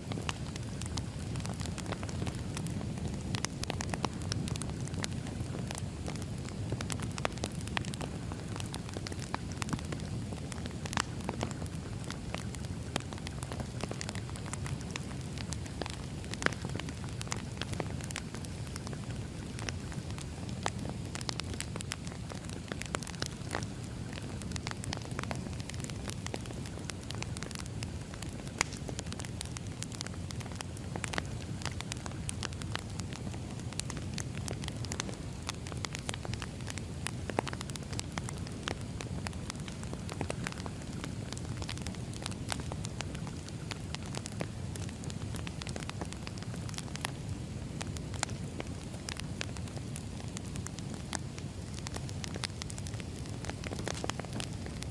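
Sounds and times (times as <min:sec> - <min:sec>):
firewood crackling and popping: 0:00.0 - 0:54.9
low rumble of flames: 0:00.0 - 0:54.9.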